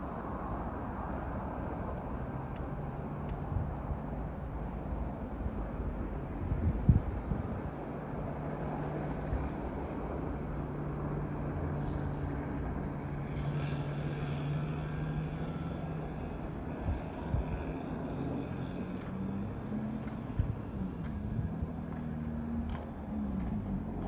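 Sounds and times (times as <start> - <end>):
outdoor noise: 0.0 - 24.0.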